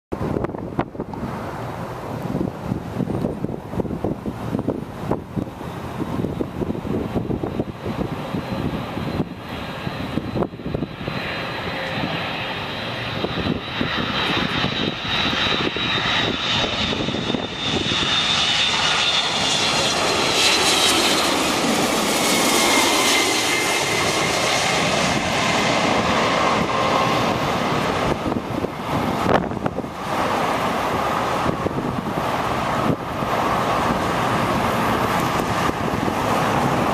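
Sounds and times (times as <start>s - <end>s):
jet airliner passing overhead: 0.1s - 36.9s
high engine whine: 0.2s - 36.9s.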